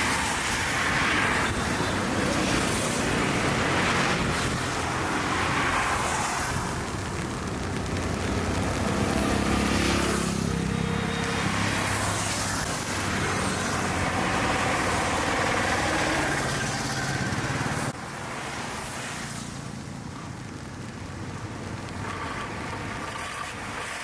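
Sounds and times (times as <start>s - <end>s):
cars and motorbikes passing: 0.0s - 24.0s
traffic hum: 0.0s - 24.0s.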